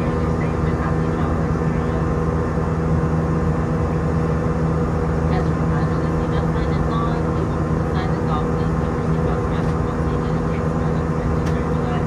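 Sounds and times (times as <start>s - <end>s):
jet engine drone in cabin: 0.0s - 12.0s.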